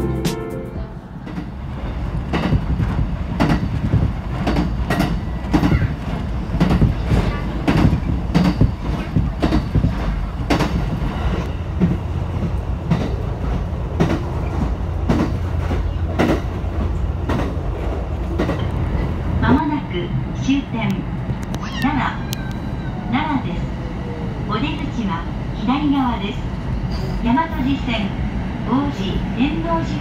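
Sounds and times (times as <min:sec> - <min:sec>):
train wheels rumbling on rail: 0:00.8 - 0:30.0.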